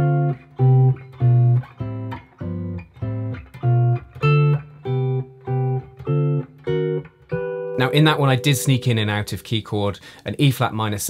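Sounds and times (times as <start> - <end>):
electric guitar chords: 0.0 - 9.5.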